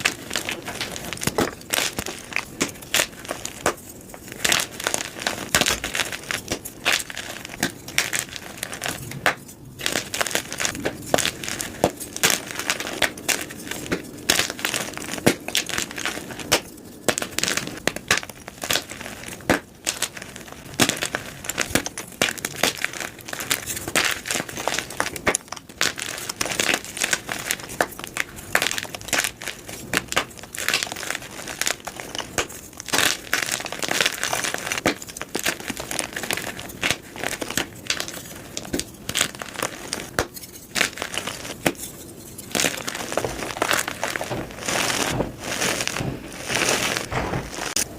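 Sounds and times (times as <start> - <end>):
chalk crushed by hand: 0.0 - 47.9.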